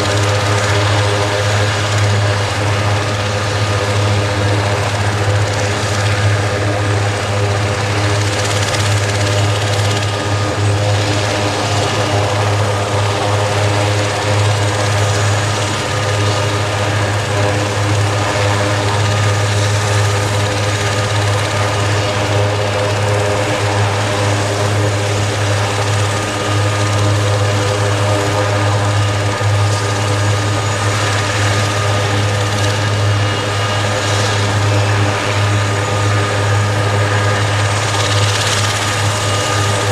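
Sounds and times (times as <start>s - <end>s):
helicopter rotors and turbines running: 0.0s - 39.9s.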